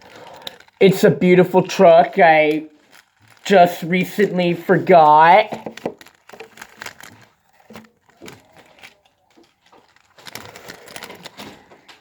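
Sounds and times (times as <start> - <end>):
plastic and cardboard crinkling: 0.0 - 12.0.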